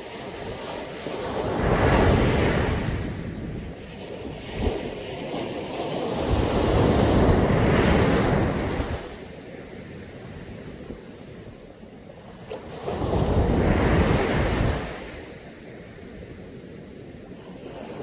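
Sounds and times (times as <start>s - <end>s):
sea waves breaking on a beach: 0.0s - 18.0s.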